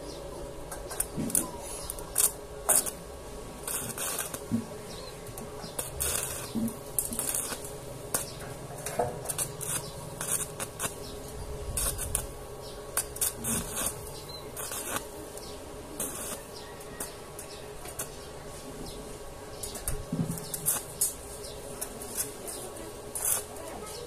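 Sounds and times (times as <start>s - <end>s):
welding arc crackling and sizzling: 0.0s - 24.0s.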